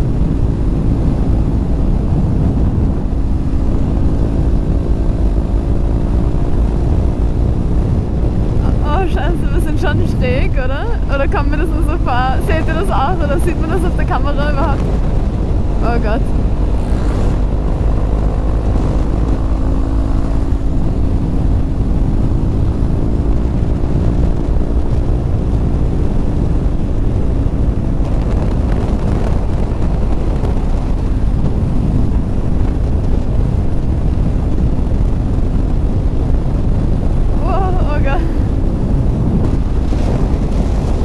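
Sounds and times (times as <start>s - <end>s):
motorcycle engine running: 0.0s - 41.0s
wind rush on microphone: 0.0s - 41.0s.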